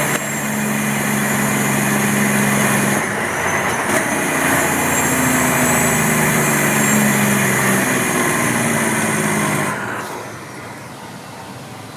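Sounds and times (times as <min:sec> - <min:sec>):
diesel engine hum: 0:00.0 - 0:11.9.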